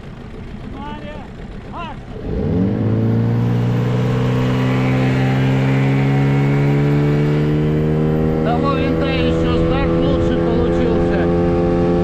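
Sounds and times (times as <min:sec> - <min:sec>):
outboard motor running flat out: 0:00.0 - 0:12.0.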